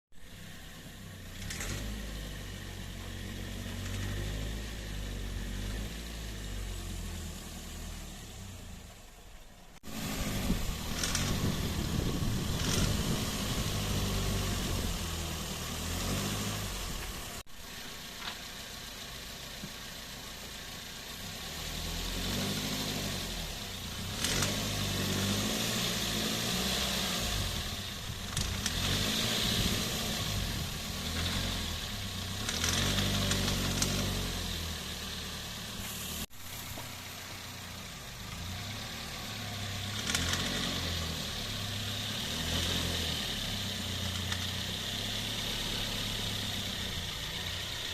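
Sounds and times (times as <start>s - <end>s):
strange engine noise under load: 0.1s - 47.9s
car engine pulling away: 0.2s - 47.9s.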